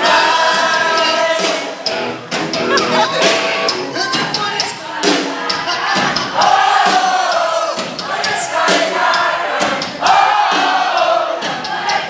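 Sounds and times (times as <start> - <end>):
crowd singing along: 0.0 - 12.0
live band playing: 0.0 - 12.0.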